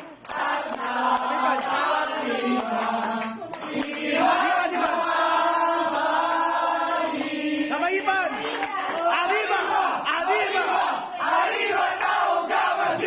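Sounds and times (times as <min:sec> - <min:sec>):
crowd singing in unison: 0:00.0 - 0:13.0.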